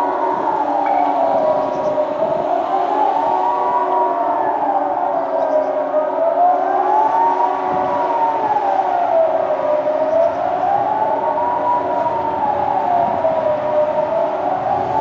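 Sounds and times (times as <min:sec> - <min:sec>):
wailing siren: 0:00.0 - 0:15.0.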